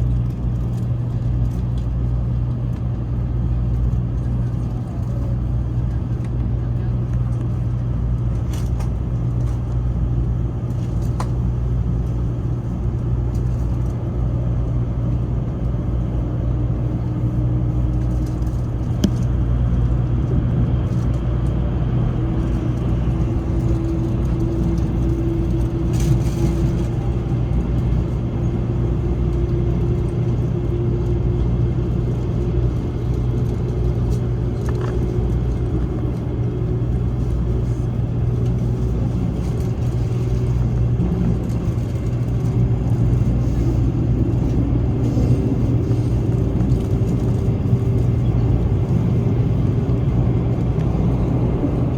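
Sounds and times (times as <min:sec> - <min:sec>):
train cabin rumble and hum: 0:00.0 - 0:51.9.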